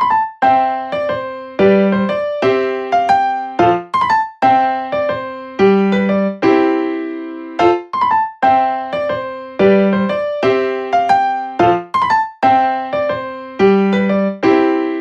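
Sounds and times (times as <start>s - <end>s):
light keyboard tune: 0.0s - 15.0s.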